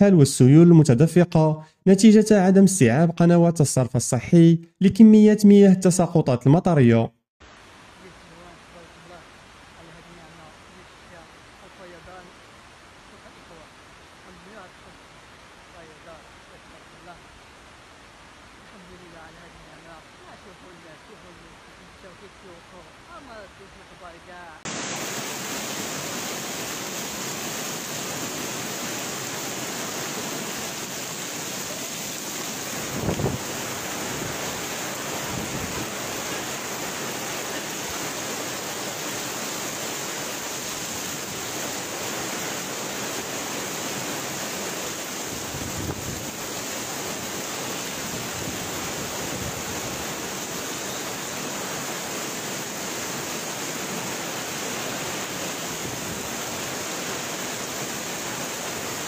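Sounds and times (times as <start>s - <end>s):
heavy rain pouring: 7.4s - 59.0s.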